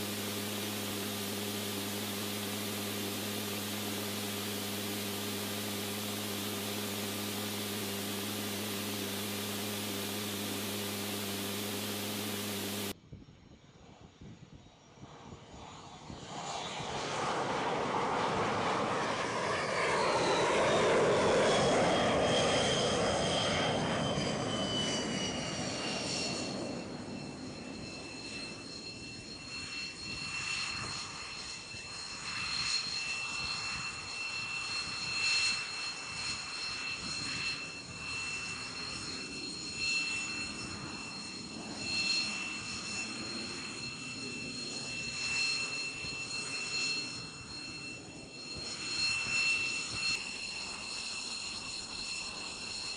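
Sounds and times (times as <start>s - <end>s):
jet engine spooling down whine: 0.0s - 52.9s.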